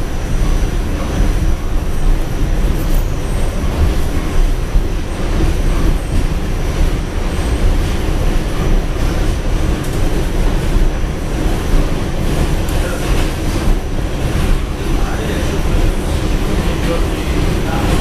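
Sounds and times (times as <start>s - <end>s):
subway car wheels and motors: 0.0s - 18.0s.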